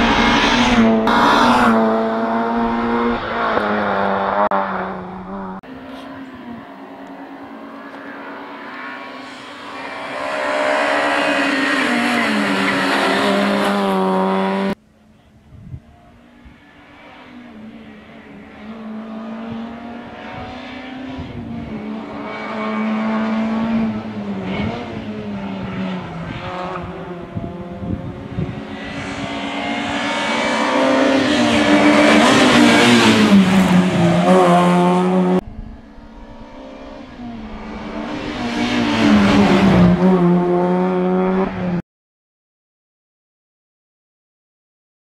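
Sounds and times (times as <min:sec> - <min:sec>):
rally car engine revving: 0:00.0 - 0:14.8, 0:16.2 - 0:41.8.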